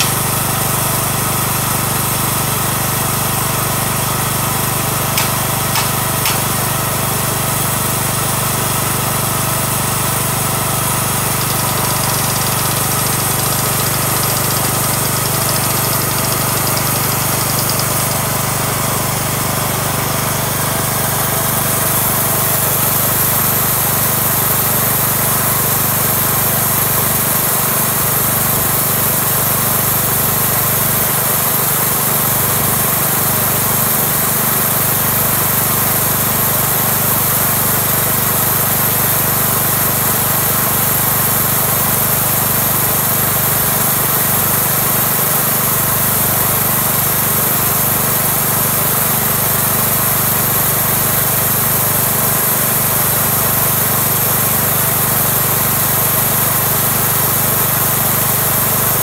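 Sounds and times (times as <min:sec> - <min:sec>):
small sawmill engine running: 0:00.0 - 0:59.0.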